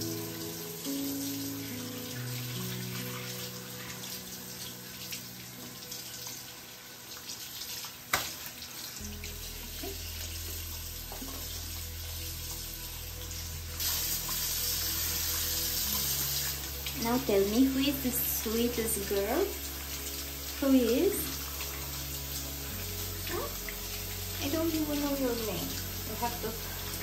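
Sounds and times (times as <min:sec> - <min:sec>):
soft background music: 0:00.0 - 0:27.0
tap water running into sink: 0:00.0 - 0:27.0.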